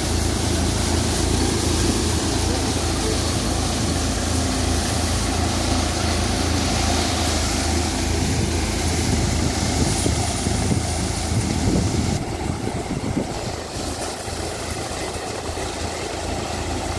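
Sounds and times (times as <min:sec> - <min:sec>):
thresher machine humming: 0:00.0 - 0:16.9.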